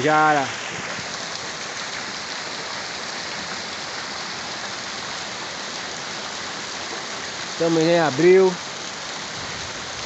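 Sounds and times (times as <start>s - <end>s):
runoff water flowing: 0.0s - 10.0s
steady rain falling: 0.0s - 10.0s.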